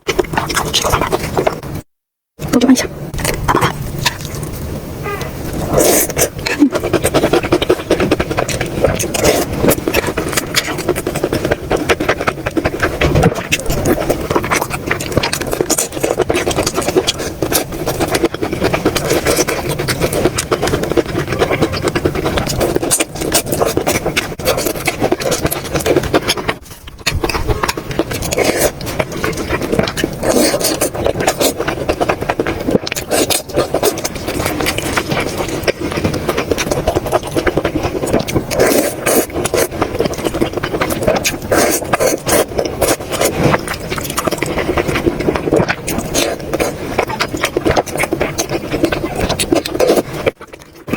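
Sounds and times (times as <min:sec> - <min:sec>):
chewing and mouth clicks: 0:00.0 - 0:01.9, 0:02.5 - 0:50.9.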